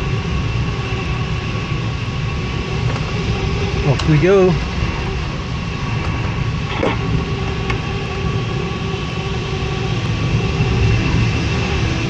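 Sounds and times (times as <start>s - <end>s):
airflow rushing over glider: 0.0s - 12.0s
faint steady tones: 0.0s - 12.0s.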